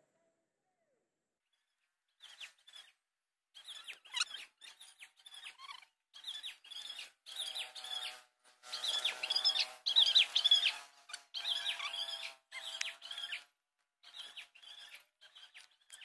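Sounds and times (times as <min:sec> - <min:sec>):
birds chirping: 0:01.5 - 0:16.0.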